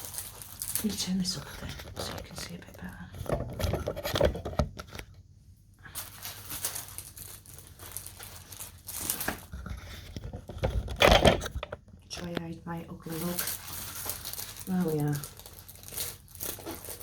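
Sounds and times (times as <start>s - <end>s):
plastic packaging crinkling: 0.0s - 5.2s, 5.9s - 17.0s.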